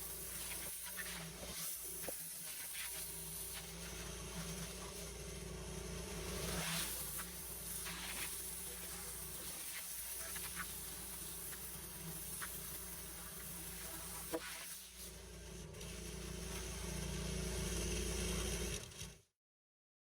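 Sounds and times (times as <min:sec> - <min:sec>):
small engine buzzing drone: 0:00.0 - 0:19.2.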